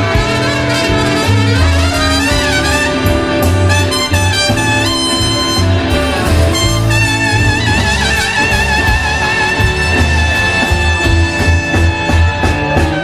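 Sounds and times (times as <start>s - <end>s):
blues-rock band playing: 0.0s - 13.0s
horn section long notes: 0.0s - 13.0s.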